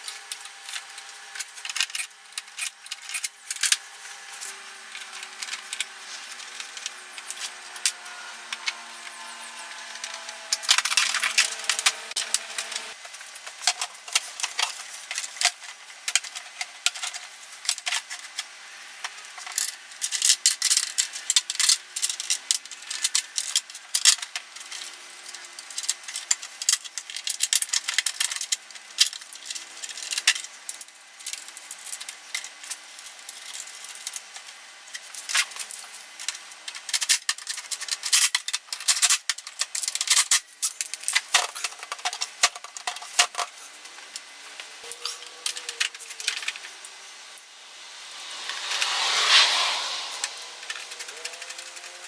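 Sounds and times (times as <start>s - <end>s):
plastic parts clicking and rattling: 0.0s - 46.7s, 50.7s - 52.0s.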